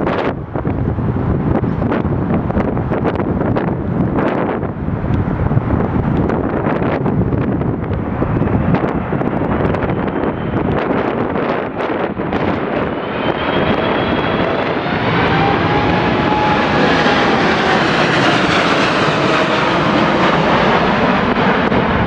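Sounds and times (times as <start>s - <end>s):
jet airliner engines passing: 0.0s - 22.0s
wind buffeting microphone: 0.0s - 22.0s
high engine whine: 0.1s - 22.0s.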